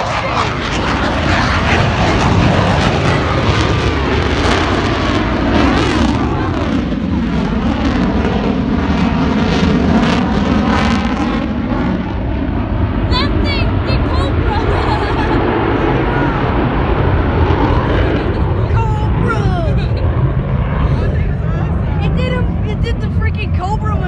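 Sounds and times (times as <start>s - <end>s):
jet roar from flyby: 0.0s - 24.0s.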